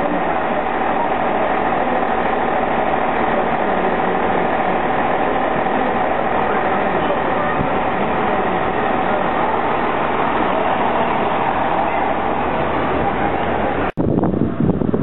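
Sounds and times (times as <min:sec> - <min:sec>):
diesel train engine idling: 0:00.0 - 0:15.0.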